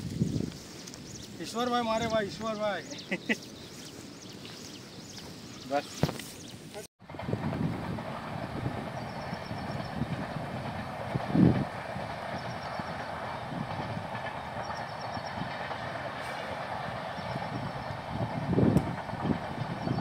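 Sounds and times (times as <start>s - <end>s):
train rumbling with wheel clatter: 0.0s - 5.8s, 6.5s - 20.0s.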